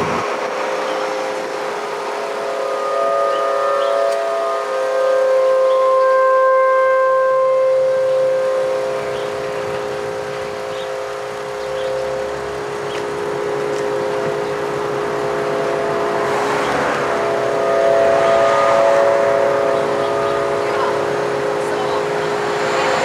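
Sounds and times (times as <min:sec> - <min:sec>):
outdoor warning siren chord: 0:00.0 - 0:23.0
rush of noise: 0:00.0 - 0:23.0.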